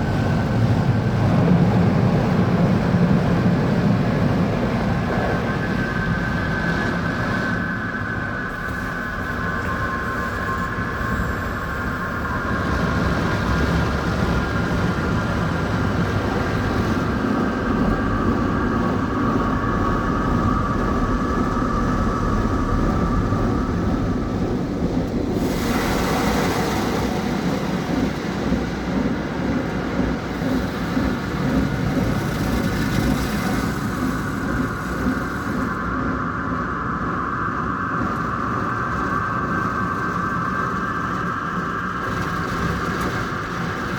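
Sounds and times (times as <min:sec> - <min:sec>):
car wash machinery rumble and whine: 0:00.0 - 0:43.9.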